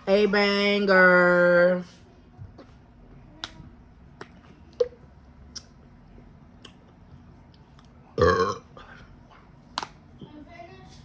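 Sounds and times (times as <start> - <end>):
low room noise: 0.0 - 11.0.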